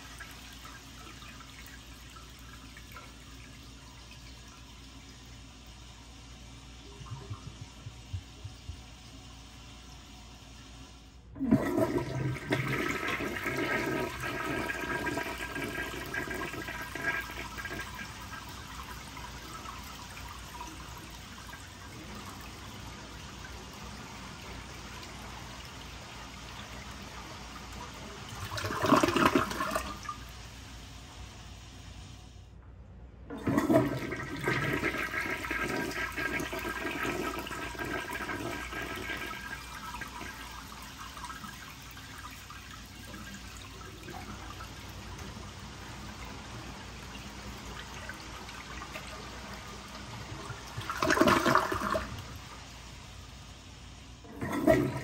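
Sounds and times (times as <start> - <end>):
toilet flushing: 0.0 - 32.2, 33.2 - 55.0.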